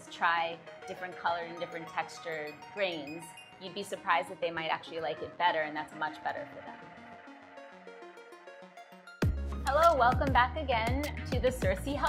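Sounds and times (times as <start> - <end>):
soft background melody: 0.0 - 12.0.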